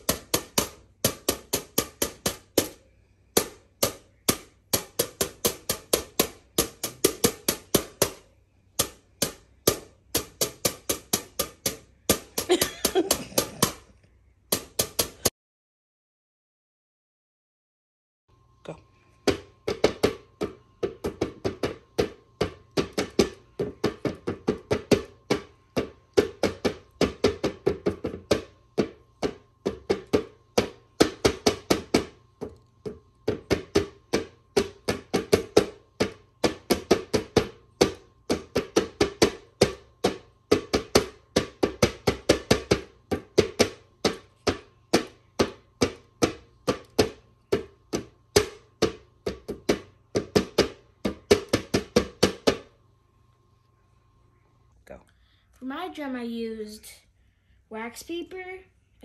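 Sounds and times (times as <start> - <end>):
wooden spoon beating paper drum: 0.0 - 13.9, 14.5 - 15.3, 19.2 - 52.8.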